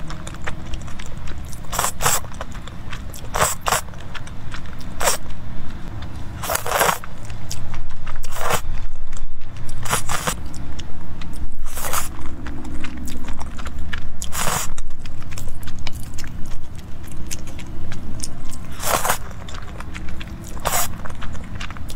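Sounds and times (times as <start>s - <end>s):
wet noodle slurps: 0.0s - 5.4s, 6.0s - 8.9s, 9.6s - 10.6s, 11.2s - 21.9s
chewing: 0.0s - 21.9s.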